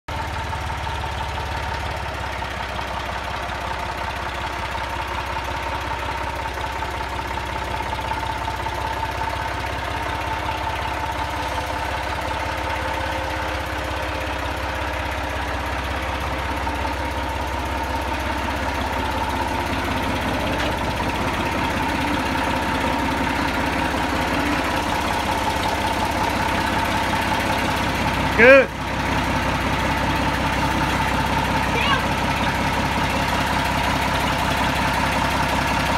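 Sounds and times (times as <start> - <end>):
tractor diesel engine running: 0.1 - 35.9.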